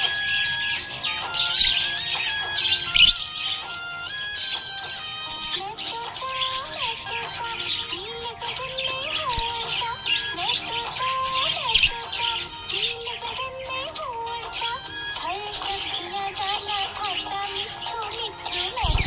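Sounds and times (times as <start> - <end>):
budgerigar chirping: 0.0 - 13.5, 14.5 - 19.0
background music: 0.0 - 19.0.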